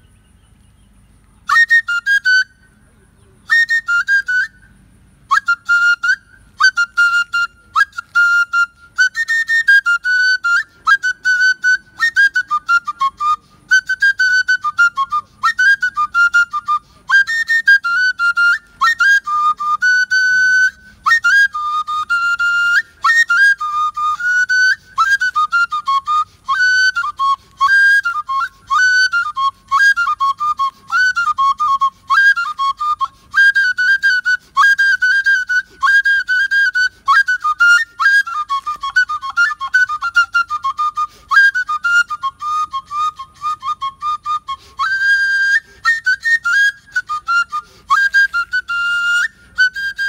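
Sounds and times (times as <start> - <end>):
wooden flute playing: 0.0 - 50.0.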